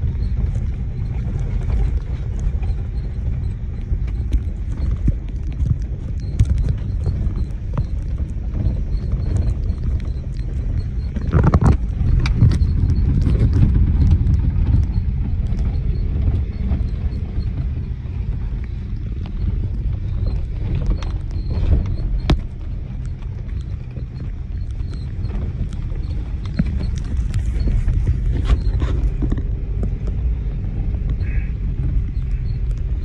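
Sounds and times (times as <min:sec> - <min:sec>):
car engine and tyres rumbling: 0:00.0 - 0:33.0
knocks and rattles over bumps: 0:00.0 - 0:33.0.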